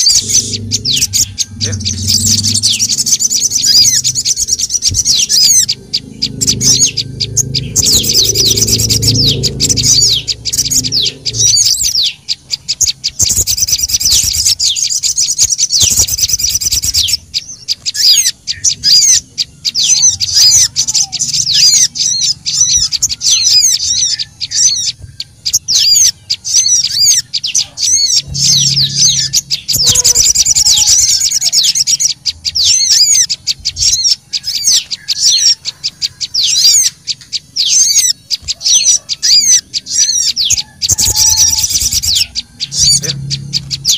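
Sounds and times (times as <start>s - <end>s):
small birds chirping and chattering: 0.0s - 43.9s.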